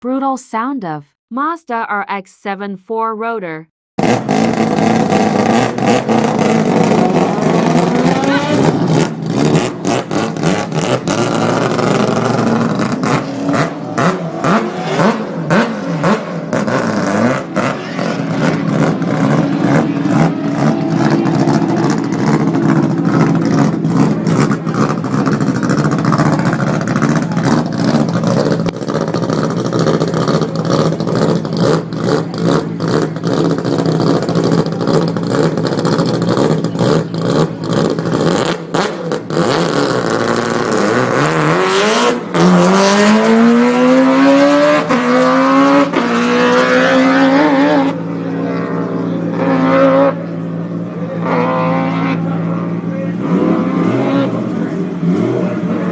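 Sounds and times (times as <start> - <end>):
rotary engine revving hard: 4.0 - 55.9.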